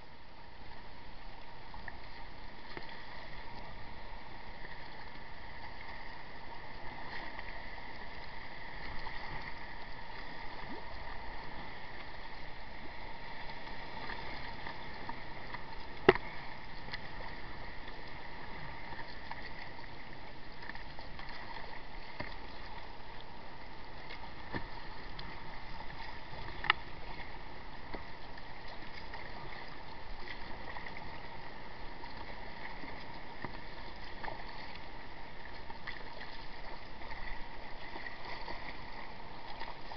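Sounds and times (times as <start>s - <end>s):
water splashing against kayak: 0.0s - 39.9s.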